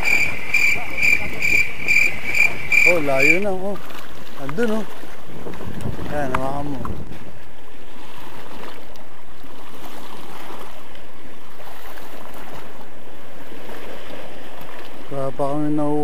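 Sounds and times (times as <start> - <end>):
sea water washing against rocks: 0.0 - 16.0.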